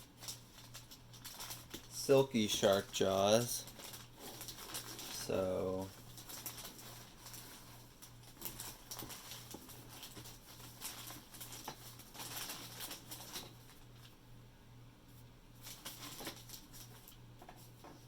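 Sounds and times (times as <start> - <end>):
packaging rustling and clicking: 0.0 - 14.1, 15.6 - 17.8.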